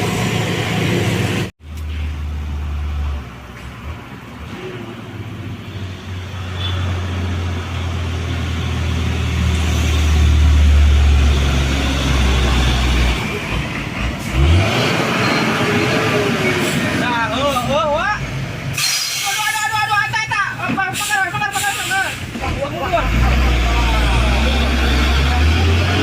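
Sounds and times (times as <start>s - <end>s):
diesel truck engine pulling hard: 2.2s - 19.9s, 20.9s - 26.0s.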